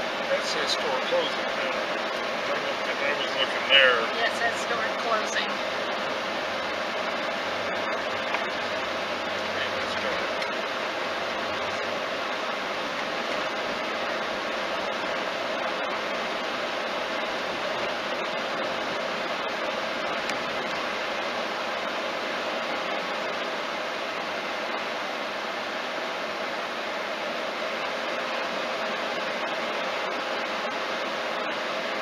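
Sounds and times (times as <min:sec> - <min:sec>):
faint steady hum: 0:00.0 - 0:32.0
tyre and road hiss: 0:00.0 - 0:32.0.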